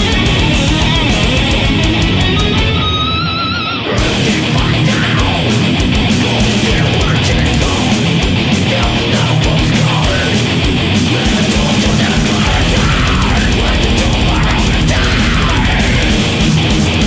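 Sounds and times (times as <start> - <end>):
distorted guitars: 0.0 - 17.0
drums: 0.0 - 17.0.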